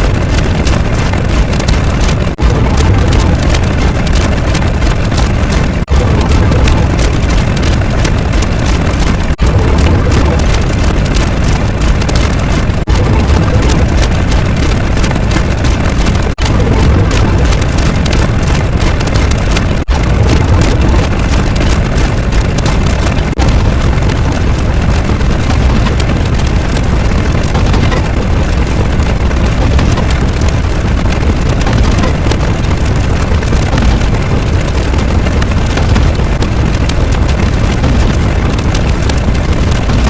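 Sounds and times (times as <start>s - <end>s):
loud steady roar: 0.0s - 40.0s.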